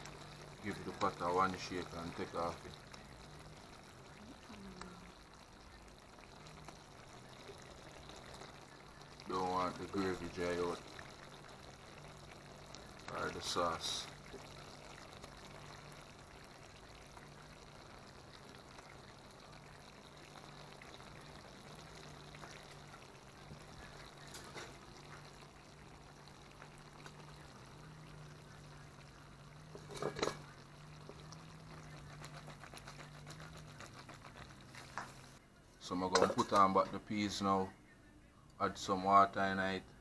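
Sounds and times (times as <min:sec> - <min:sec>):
pot simmering: 0:00.0 - 0:37.7.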